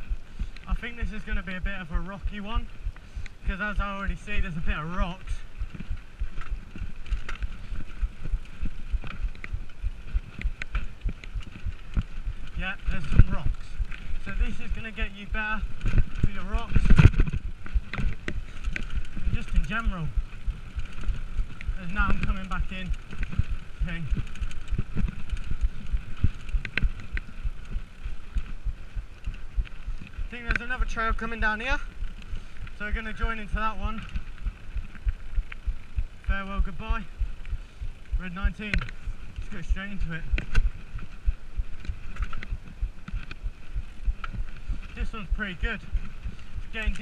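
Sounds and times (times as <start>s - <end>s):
bike clicks and rattles: 0.0s - 47.0s
tyre noise on gravel: 0.0s - 47.0s
mountain bike jolting over rocks: 0.1s - 47.0s.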